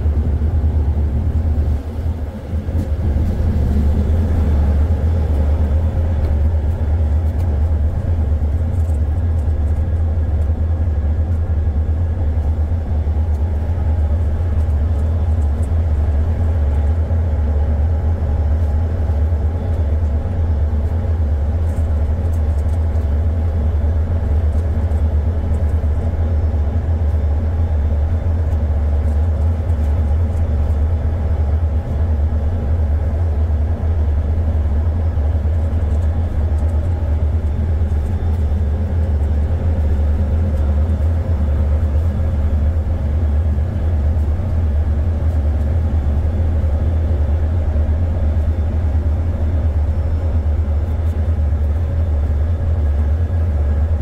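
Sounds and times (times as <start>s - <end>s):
ship engine drone: 0.0s - 54.0s.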